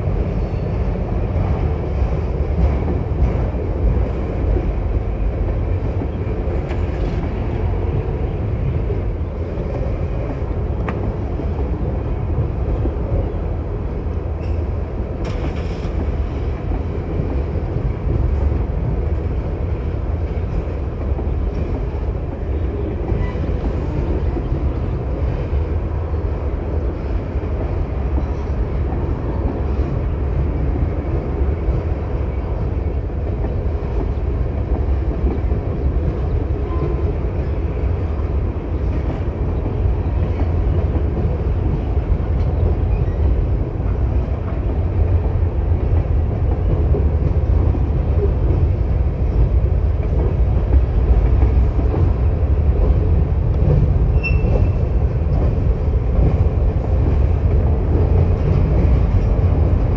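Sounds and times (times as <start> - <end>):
train cars rumbling on rails: 0.0 - 59.9.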